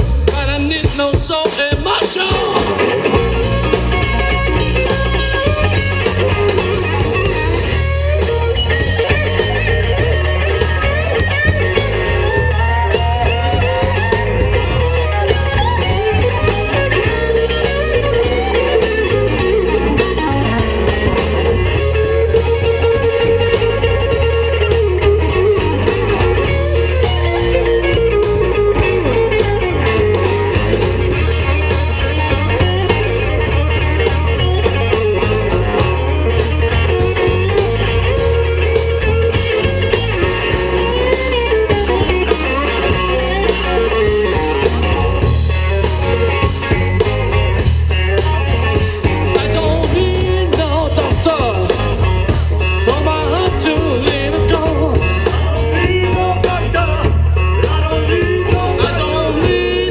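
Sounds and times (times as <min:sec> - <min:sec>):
bass: 0:00.0 - 0:59.9
drum beat: 0:00.0 - 0:59.9
electric guitar: 0:00.0 - 0:59.9
rock band playing: 0:00.0 - 0:59.9.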